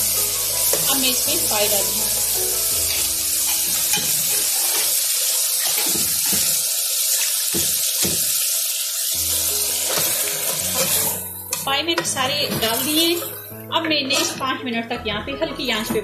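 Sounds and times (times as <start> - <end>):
masala sizzling in hot oil: 0.0 - 14.3.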